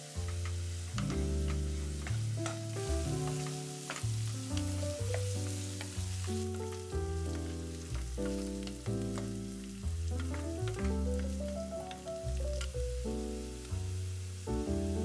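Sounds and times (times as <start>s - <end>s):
background music: 0.0s - 15.0s
onions sizzling in oil: 0.0s - 15.0s.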